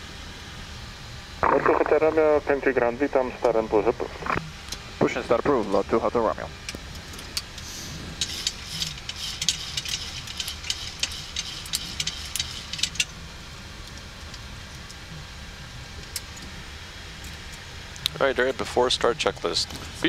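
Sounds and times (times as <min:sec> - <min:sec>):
fans and air conditioning hum: 0:00.0 - 0:20.0.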